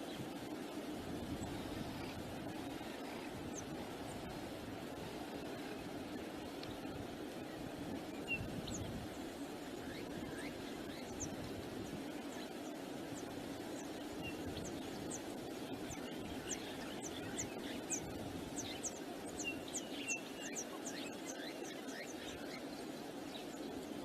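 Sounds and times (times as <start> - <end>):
wind rushing over microphone: 0.0 - 19.7
small birds chirping: 0.0 - 24.0.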